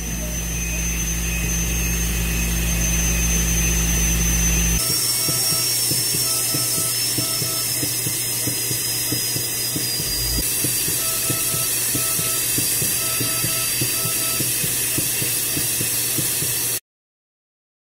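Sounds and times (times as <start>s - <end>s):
dental drill whining: 0.0s - 16.8s.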